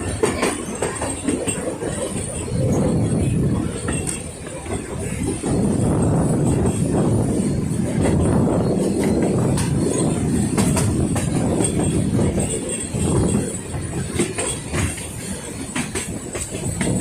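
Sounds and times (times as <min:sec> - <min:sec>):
train wheels and carriages rumbling: 0:00.0 - 0:17.0
wheels clicking over rail joints: 0:00.0 - 0:17.0.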